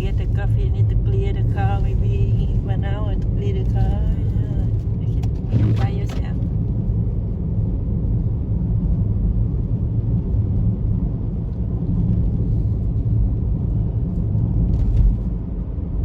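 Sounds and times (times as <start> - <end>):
car interior engine and tyre rumble: 0.0 - 16.0.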